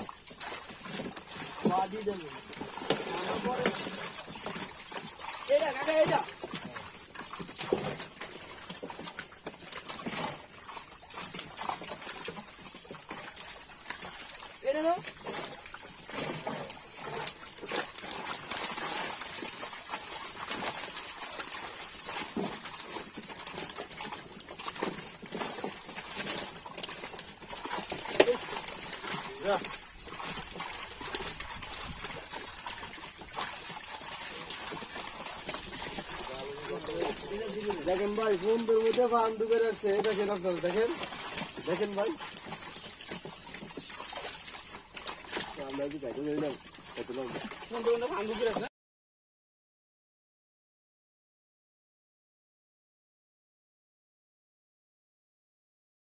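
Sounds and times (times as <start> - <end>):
fish splashing in shallow water: 0.0 - 48.7.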